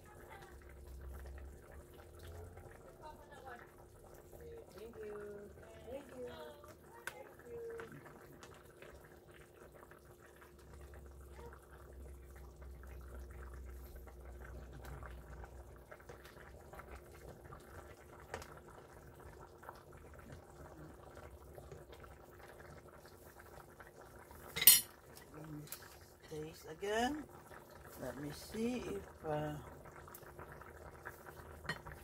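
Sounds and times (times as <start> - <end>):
broth simmering: 0.0 - 32.0.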